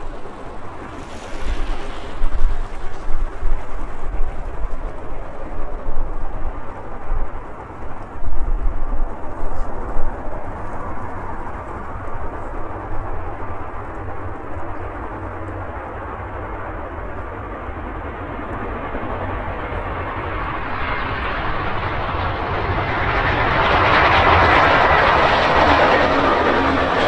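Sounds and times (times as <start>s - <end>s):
airliner rumble: 0.0s - 27.0s.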